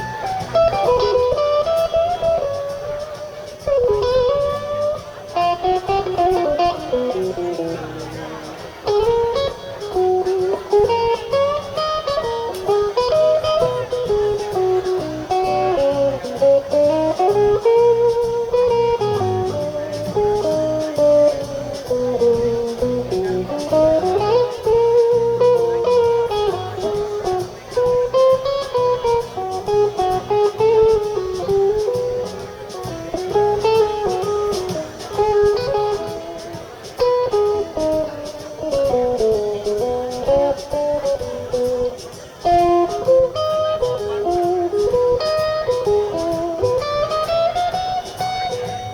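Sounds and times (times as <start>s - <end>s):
bass and drums: 0.0s - 48.9s
electric guitar solo: 0.0s - 48.9s.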